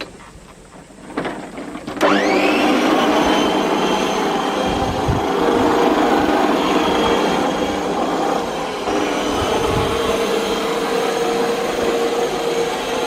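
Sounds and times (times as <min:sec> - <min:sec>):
reel lawn mower running: 0:01.0 - 0:13.0.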